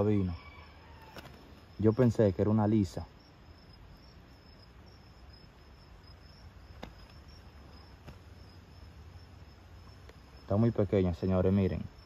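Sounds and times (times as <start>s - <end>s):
high-pitched insect trill: 0.0s - 12.0s
low background hiss: 0.0s - 12.0s.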